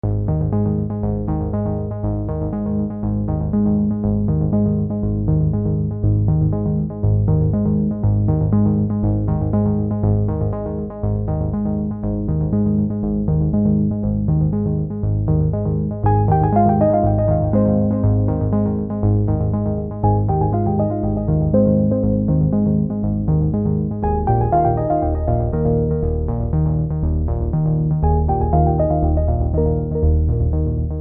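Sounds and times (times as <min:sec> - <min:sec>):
synthesizer and keyboard music: 0:00.0 - 0:31.0.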